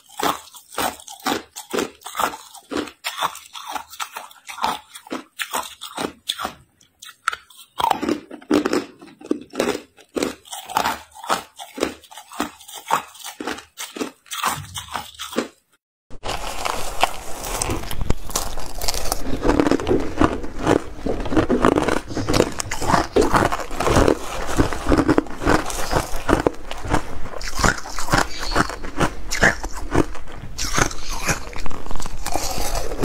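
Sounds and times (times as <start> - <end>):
ice cubes crunched by chewing: 0.0 - 15.6, 16.2 - 33.0.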